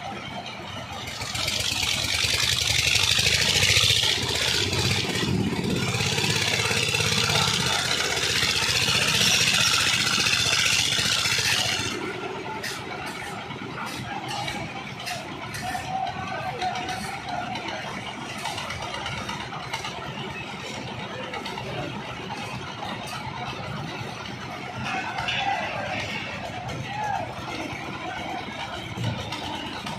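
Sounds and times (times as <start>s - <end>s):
concrete mixer engines running: 0.0s - 29.9s.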